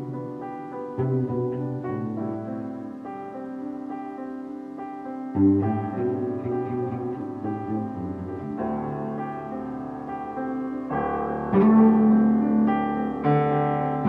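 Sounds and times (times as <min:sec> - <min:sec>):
electric bass notes: 0:00.0 - 0:03.0, 0:05.4 - 0:14.0
piano chords: 0:00.0 - 0:14.0.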